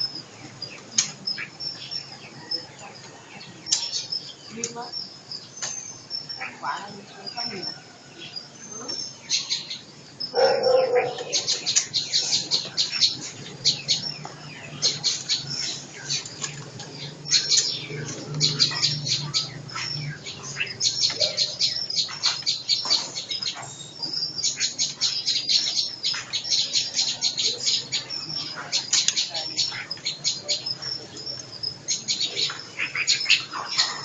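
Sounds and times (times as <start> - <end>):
caged songbirds chirping: 0.0 - 34.0.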